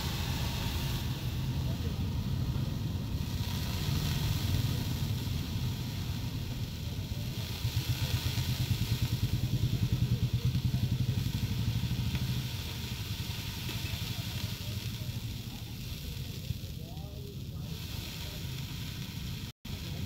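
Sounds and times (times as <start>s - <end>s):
low engine-like rumble: 0.0s - 20.0s
water sizzling on hot griddle: 0.0s - 20.0s.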